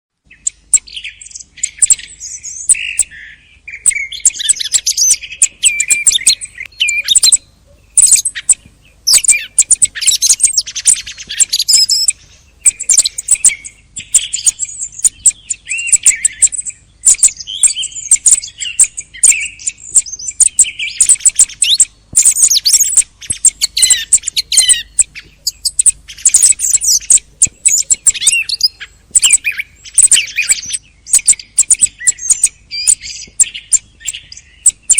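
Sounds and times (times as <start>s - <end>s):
thrushes chirping and whistling: 0.3s - 34.9s.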